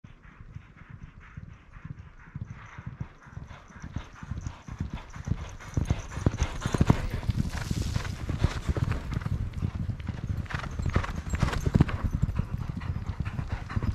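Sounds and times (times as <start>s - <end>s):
horse hoofbeats: 0.0s - 13.9s.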